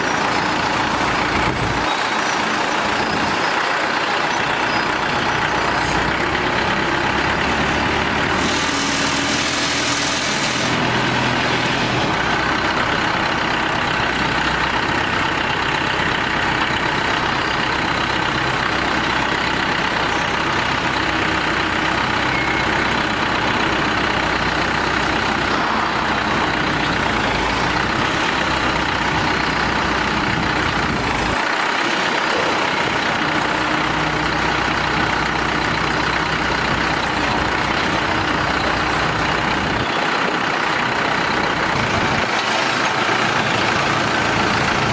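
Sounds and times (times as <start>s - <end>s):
drilling rig engine running: 0.0s - 44.9s.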